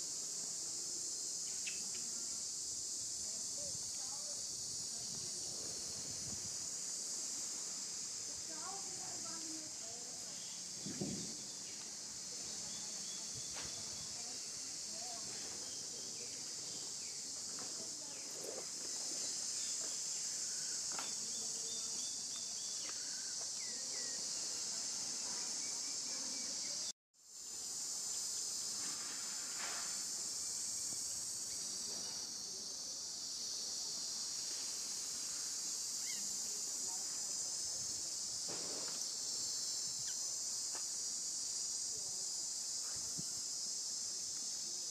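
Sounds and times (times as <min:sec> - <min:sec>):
insect chorus drone: 0:00.0 - 0:44.9.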